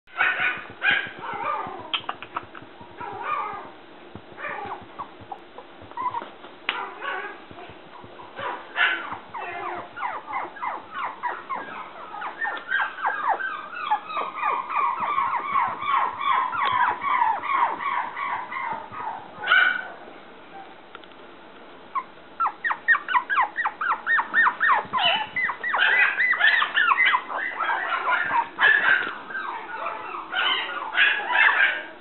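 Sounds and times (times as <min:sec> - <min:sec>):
puppy yelp: 0:00.1 - 0:03.7, 0:04.4 - 0:05.4, 0:06.0 - 0:20.7, 0:21.9 - 0:32.0
puppy whining and yipping: 0:00.2 - 0:02.1, 0:02.9 - 0:03.7, 0:04.4 - 0:19.9, 0:21.9 - 0:31.9.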